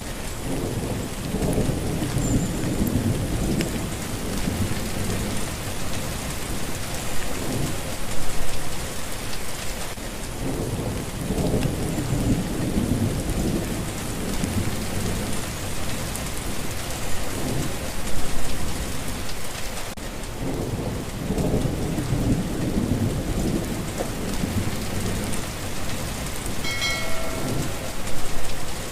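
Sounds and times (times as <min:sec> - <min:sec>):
heavy rain on a street: 0:00.0 - 0:28.9
low thunder rumbles: 0:00.4 - 0:08.5, 0:10.4 - 0:19.0, 0:20.4 - 0:28.9.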